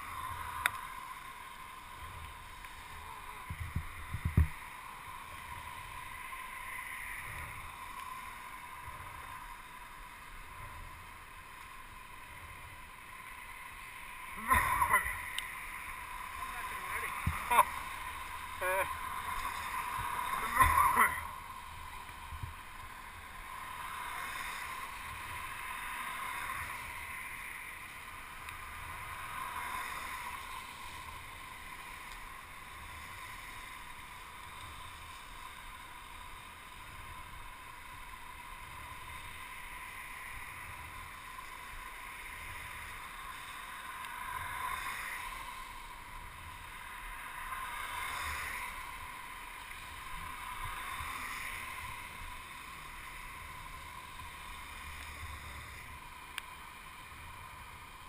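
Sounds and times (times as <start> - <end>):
tyre hiss on wet pavement: 0.0 - 58.0
wind on camera: 0.0 - 58.0.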